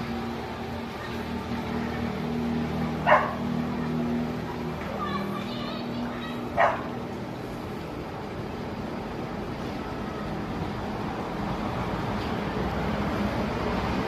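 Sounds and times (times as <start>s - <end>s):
distant road traffic: 0.0s - 14.0s.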